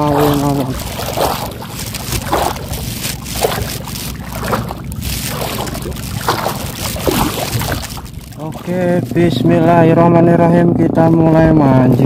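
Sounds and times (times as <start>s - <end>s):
water sloshing and slapping: 0.0s - 10.2s
wind on microphone: 0.0s - 12.0s.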